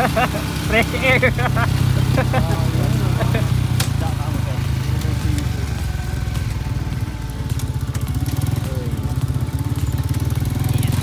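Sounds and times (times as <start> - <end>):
vehicle engine running steadily: 0.0 - 11.0.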